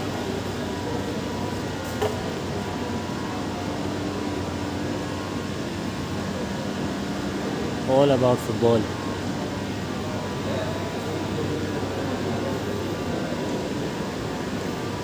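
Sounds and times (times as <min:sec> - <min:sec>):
ventilation hum and hiss: 0:00.0 - 0:15.0.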